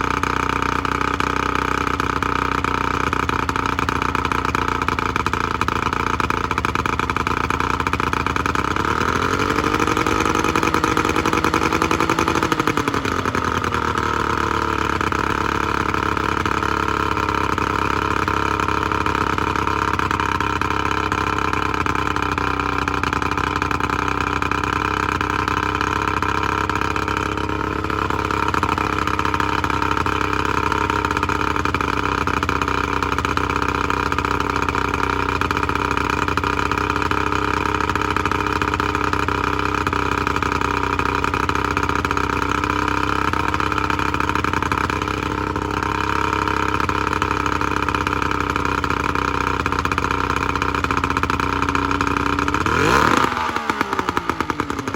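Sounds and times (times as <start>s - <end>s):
outboard motor running: 0.0s - 54.9s.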